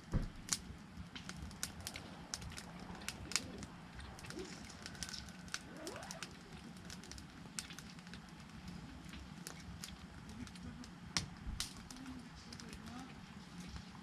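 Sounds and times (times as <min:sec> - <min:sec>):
sharp pops of fire: 0:00.0 - 0:14.0
wood fire crackling: 0:00.0 - 0:14.0.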